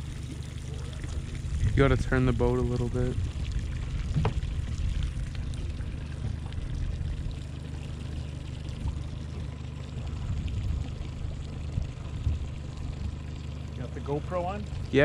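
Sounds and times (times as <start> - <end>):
outboard motor humming: 0.0 - 15.0
water splashing along hull: 0.0 - 15.0.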